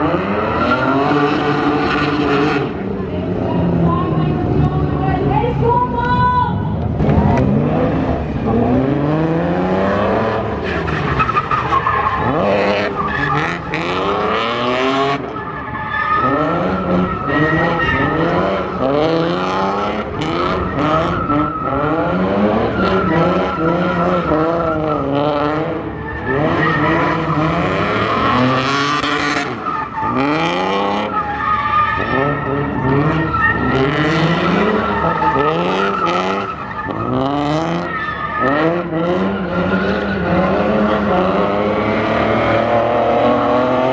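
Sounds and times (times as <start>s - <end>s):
high tyre squeal: 0.0s - 4.0s, 7.9s - 43.9s
car engines revving: 0.0s - 43.9s.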